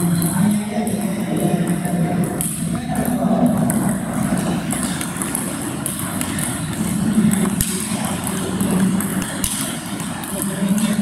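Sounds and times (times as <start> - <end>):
low hall hum: 0.0 - 11.0
ping-pong balls clicking: 0.0 - 11.0.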